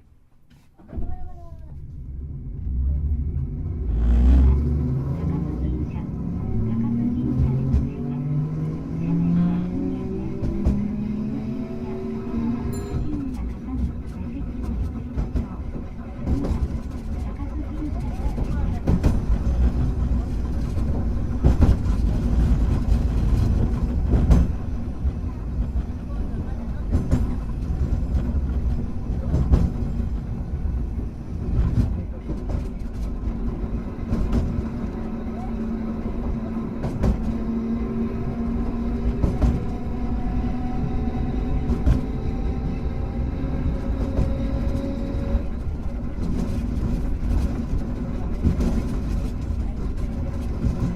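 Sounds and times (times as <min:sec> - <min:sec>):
tram motors and wheels rumbling: 0:00.0 - 0:50.9.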